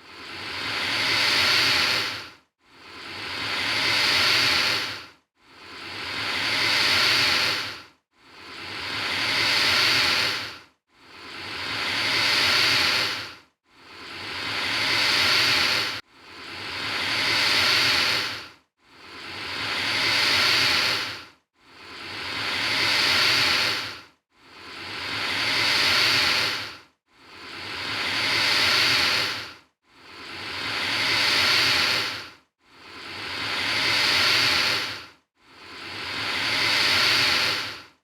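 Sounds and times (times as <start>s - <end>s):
alligator hissing: 0.2s - 2.2s, 3.0s - 5.0s, 5.7s - 7.8s, 8.4s - 10.5s, 11.2s - 13.3s, 13.9s - 16.0s, 16.6s - 18.4s, 19.0s - 24.0s, 24.6s - 32.2s, 32.9s - 35.0s, 35.7s - 37.9s.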